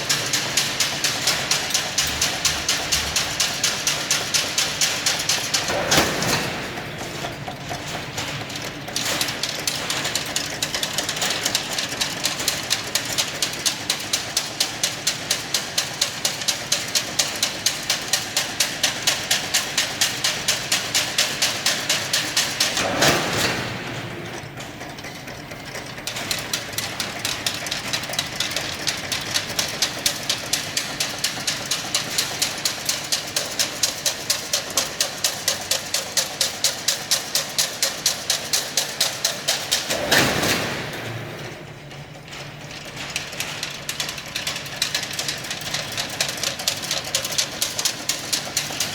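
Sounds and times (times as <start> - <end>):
weaving machine clattering: 0.0 - 48.9.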